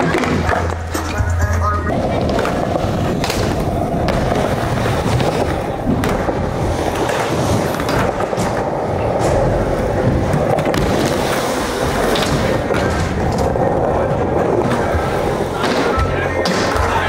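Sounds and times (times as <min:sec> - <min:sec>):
skateboard wheels rumbling: 0:01.9 - 0:17.0.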